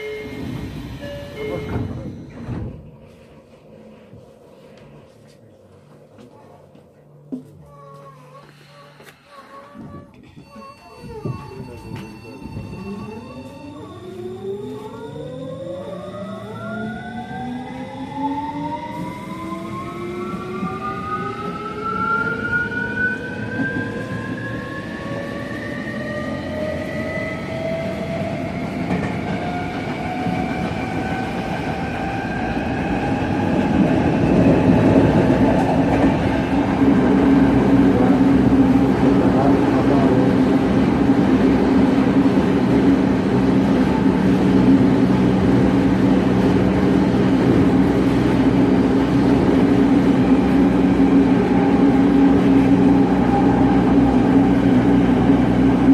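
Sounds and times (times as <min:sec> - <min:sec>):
train rumbling in a tunnel: 0:00.0 - 0:55.9.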